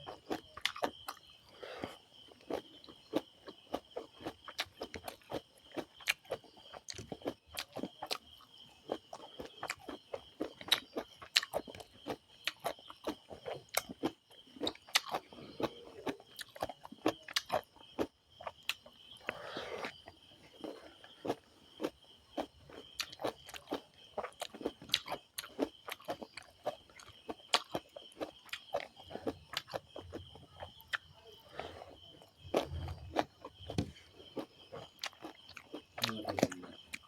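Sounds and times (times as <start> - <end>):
chewing with wet mouth clicks: 0.0 - 31.2, 32.0 - 37.0
crunching: 0.0 - 37.0.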